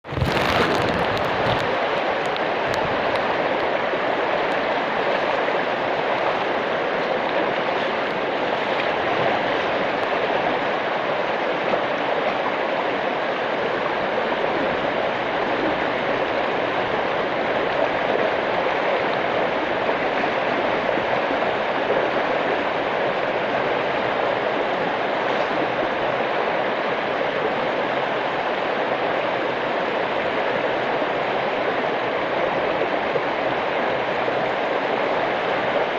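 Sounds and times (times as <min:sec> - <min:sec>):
water rushing: 0:00.0 - 0:35.9.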